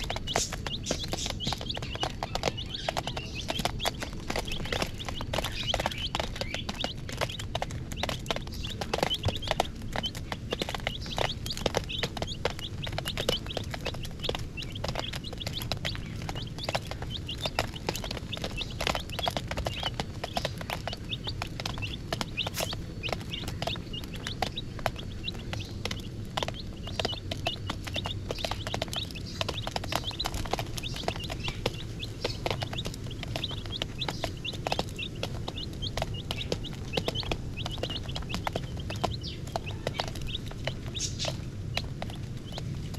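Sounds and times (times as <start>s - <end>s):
baby chicks peeping: 0.0s - 42.9s.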